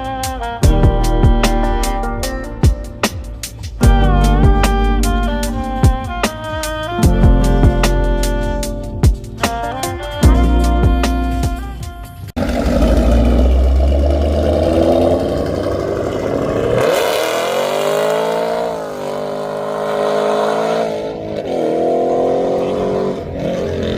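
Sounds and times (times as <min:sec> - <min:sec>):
car engine revving: 0:00.6 - 0:23.9.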